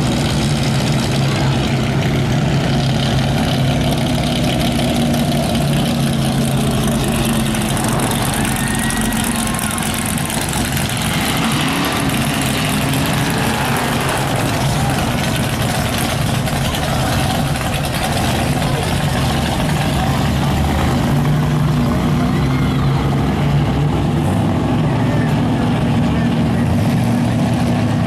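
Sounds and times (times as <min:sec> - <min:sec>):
car engines idling: 0:00.0 - 0:28.0.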